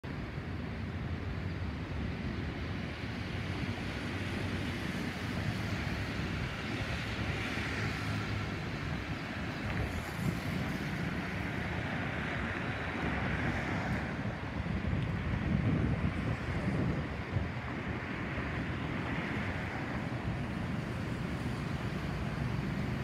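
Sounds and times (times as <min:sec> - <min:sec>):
distant jet engine rumble: 0:00.1 - 0:23.0.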